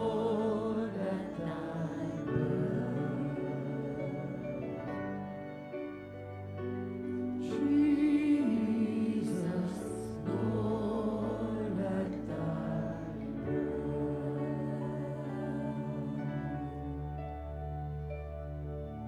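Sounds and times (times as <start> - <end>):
person singing: 0.0 - 6.1, 7.2 - 18.1.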